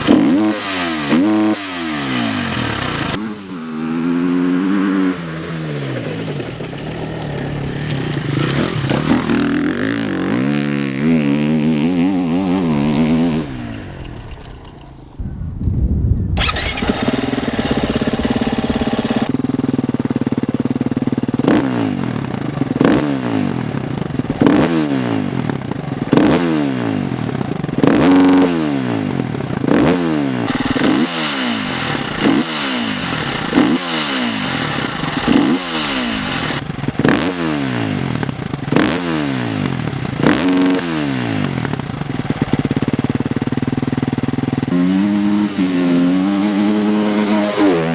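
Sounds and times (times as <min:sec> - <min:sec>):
dirt bike engine idling and revving: 0:00.0 - 0:15.8, 0:16.4 - 0:47.9.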